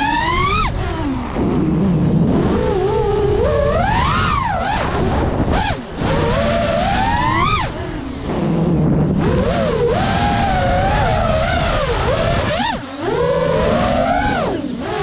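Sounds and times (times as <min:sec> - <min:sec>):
quadcopter motors whining: 0:00.0 - 0:15.0
wind on microphone: 0:00.0 - 0:15.0.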